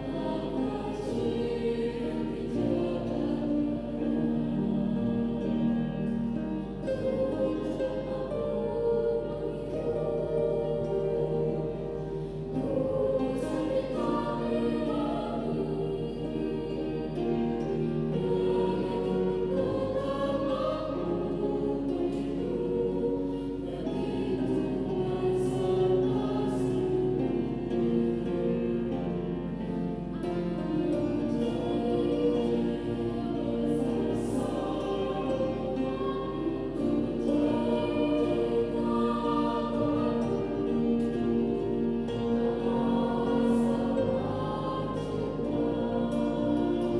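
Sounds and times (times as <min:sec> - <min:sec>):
youth choir singing: 0:00.0 - 0:46.9.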